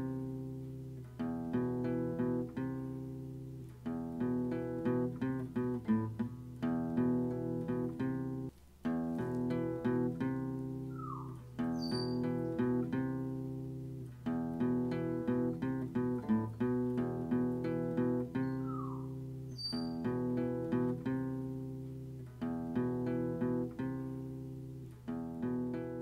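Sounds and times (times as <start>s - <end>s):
acoustic guitar plucked chords: 0.0s - 26.0s.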